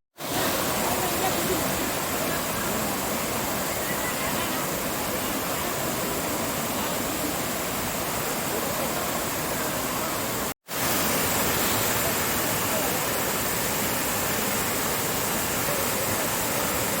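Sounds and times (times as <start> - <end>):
waterfall rushing: 0.2 - 17.0.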